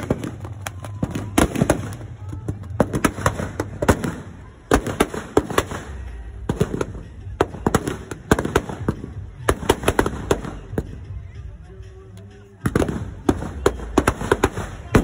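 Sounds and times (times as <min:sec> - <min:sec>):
firecrackers banging: 0:00.0 - 0:11.6, 0:12.3 - 0:15.0.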